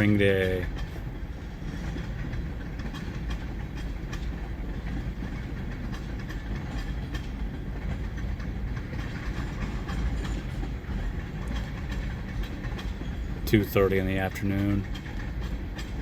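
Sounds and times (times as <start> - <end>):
freight train rumble: 0.0 - 16.0
wheels clicking over rail joints: 0.0 - 16.0.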